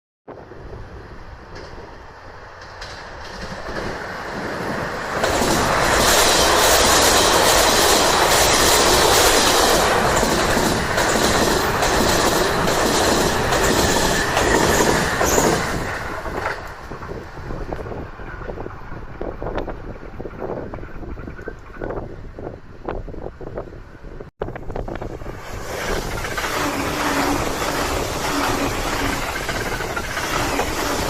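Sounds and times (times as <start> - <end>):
electric train passing at speed: 0.3 - 31.0
wheels clicking over rail joints: 1.4 - 22.1, 25.0 - 31.0.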